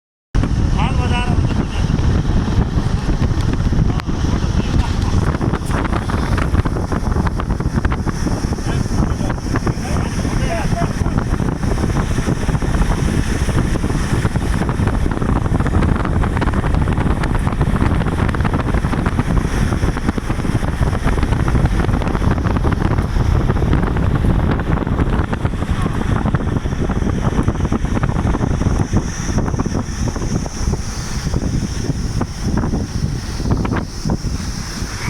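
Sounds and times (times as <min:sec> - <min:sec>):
vehicle driving rumble: 0:00.4 - 0:35.0
wind buffeting microphone: 0:00.4 - 0:35.0.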